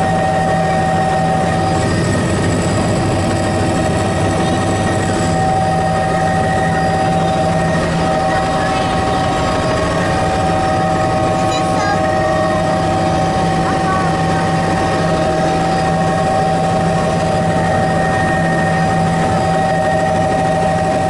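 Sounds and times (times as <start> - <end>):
helicopter turbine and rotor drone: 0.0 - 21.0
steady whining tones: 0.0 - 21.0.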